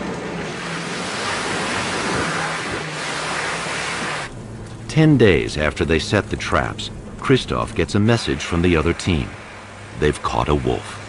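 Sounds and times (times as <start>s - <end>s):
low engine hum: 0.0s - 11.0s
tyres splashing through mud: 0.0s - 11.0s.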